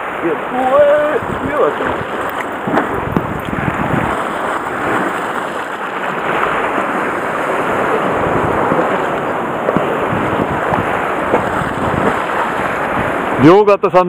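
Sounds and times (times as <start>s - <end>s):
sea surf churning against rocks: 0.0s - 14.0s.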